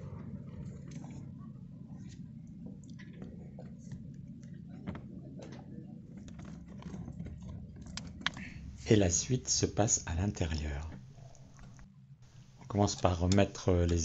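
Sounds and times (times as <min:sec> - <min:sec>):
low background rumble: 0:00.0 - 0:14.0
small ticks and soft squishing: 0:00.6 - 0:08.9, 0:09.7 - 0:14.0.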